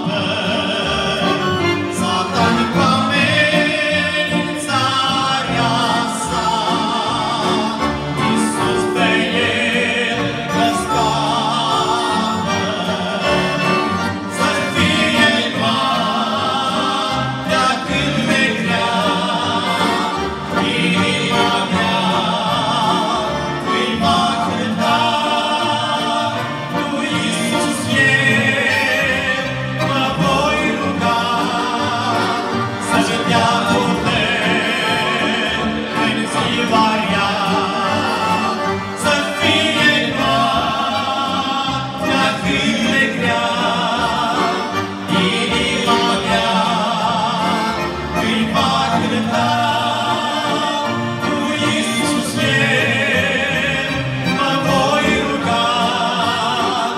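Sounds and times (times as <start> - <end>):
men singing a hymn: 0.0 - 56.9
piano accordions: 0.0 - 56.9.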